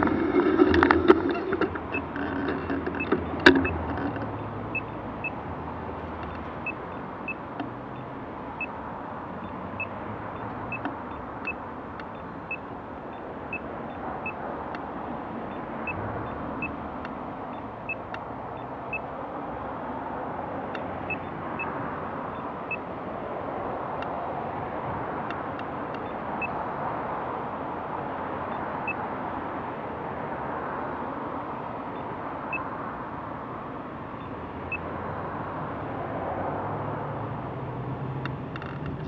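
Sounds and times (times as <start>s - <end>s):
wind and rolling noise: 0.0s - 39.0s.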